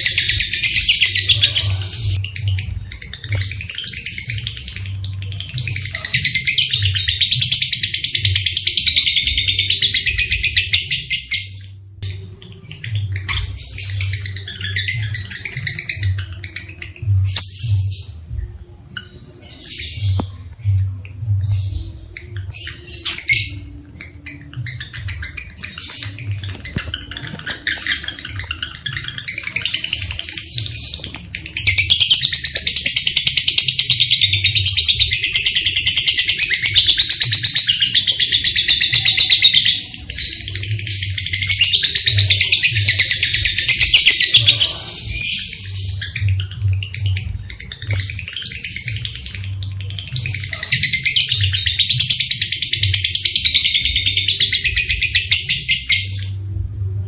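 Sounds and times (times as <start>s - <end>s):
lovebirds chattering: 0.0s - 56.5s.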